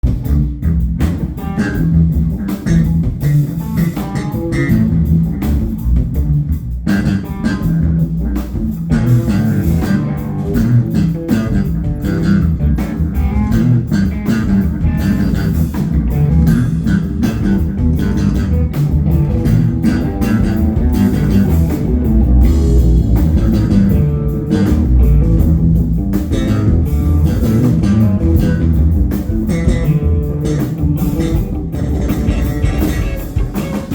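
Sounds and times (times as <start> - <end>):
bass guitar: 0.0 - 33.9
drum kit: 0.0 - 33.9
electric guitar: 0.0 - 33.9.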